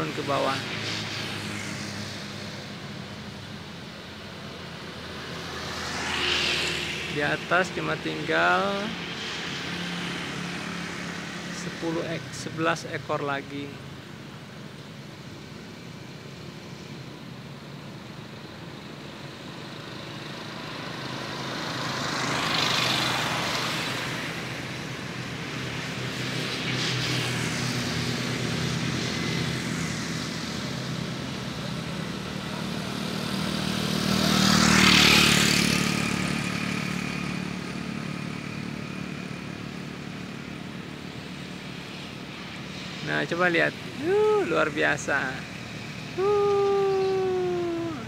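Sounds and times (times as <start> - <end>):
motorcycles passing by: 0.0 - 14.9, 15.6 - 48.0.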